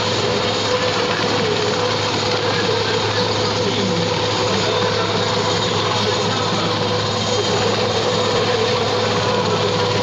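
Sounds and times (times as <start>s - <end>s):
helicopter rotor and turbine drone: 0.0s - 10.0s.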